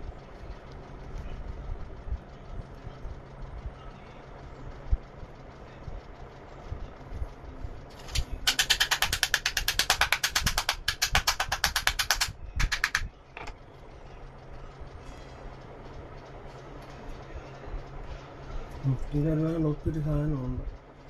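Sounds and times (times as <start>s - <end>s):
rapid mechanical clicks: 0.0s - 21.0s
steady low hum: 0.0s - 21.0s.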